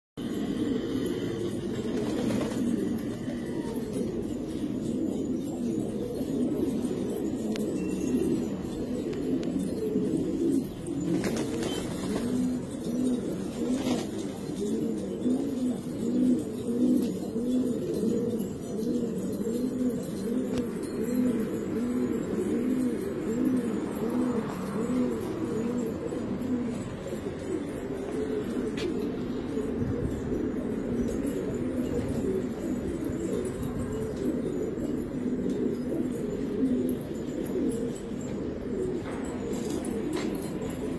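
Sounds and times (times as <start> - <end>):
pigeons cooing: 0.2 - 40.9.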